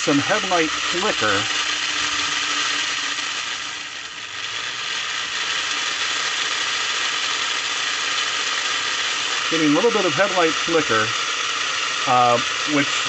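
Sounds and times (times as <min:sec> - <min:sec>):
toy locomotive motor whirring: 0:00.0 - 0:13.0.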